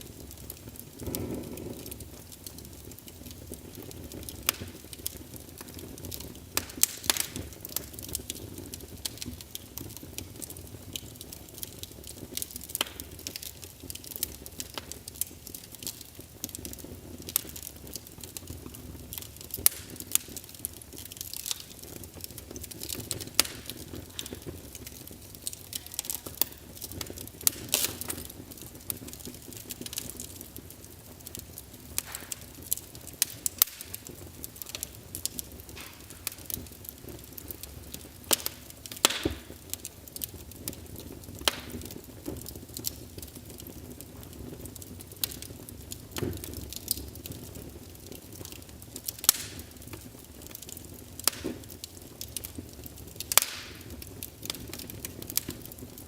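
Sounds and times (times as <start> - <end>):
low rush of flame: 0.0 - 48.4
logs crackling and popping: 0.0 - 56.0.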